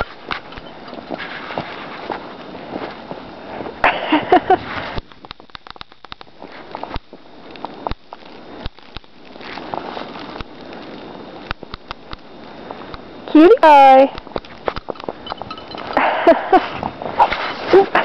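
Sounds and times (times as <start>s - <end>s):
crunching snow: 0.0s - 13.3s, 14.2s - 18.0s.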